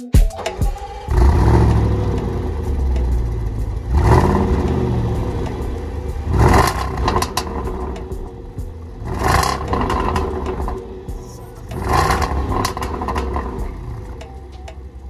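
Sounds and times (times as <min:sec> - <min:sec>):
exhaust cracks: 0:00.3 - 0:15.0
car engine rumbling and revving: 0:00.7 - 0:15.0.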